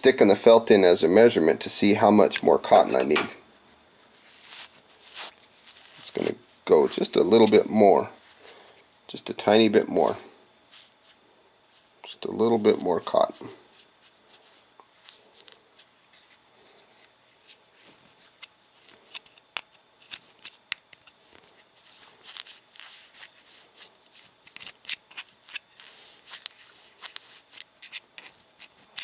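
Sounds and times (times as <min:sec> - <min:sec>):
rustling and scratching: 0:02.5 - 0:08.8, 0:10.0 - 0:12.0, 0:12.6 - 0:29.0.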